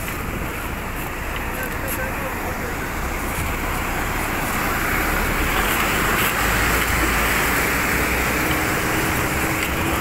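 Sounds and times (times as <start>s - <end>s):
waterfall rushing over boulders: 0.0s - 10.0s.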